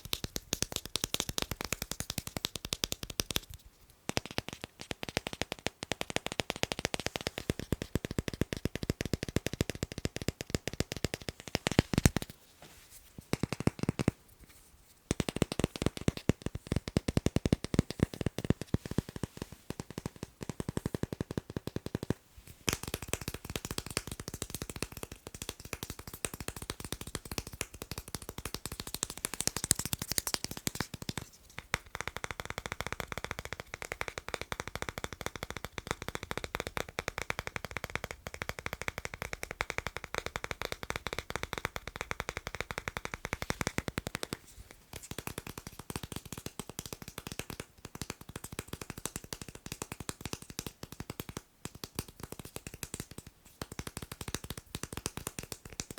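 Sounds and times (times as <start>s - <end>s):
rapid tapping on magnets: 0.0s - 12.3s, 13.3s - 14.2s, 15.1s - 55.9s.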